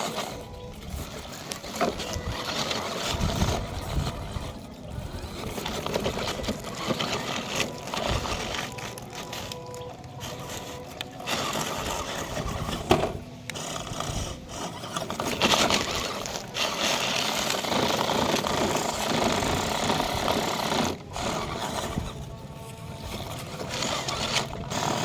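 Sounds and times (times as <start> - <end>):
small electric motor whirring: 0.0 - 25.0.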